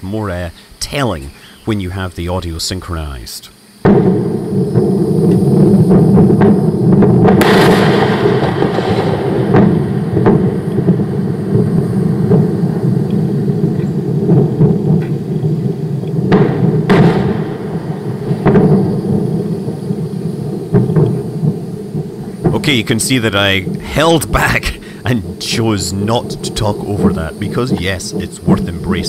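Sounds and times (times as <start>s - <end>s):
heavy rumble of burning fuel: 3.8s - 29.0s
sharp cracks of explosions: 3.8s - 29.0s.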